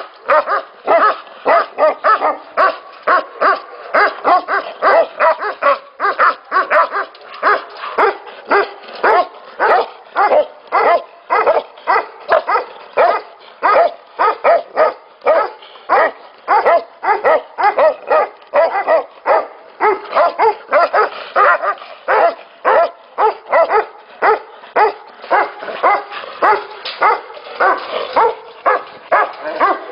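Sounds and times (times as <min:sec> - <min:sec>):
dogs barking: 0:00.0 - 0:29.9.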